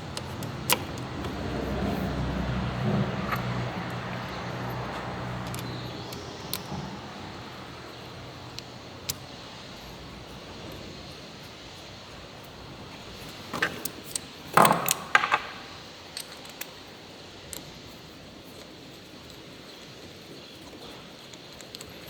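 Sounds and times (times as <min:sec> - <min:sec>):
metal tools clicking: 0:00.0 - 0:11.2, 0:13.2 - 0:22.0.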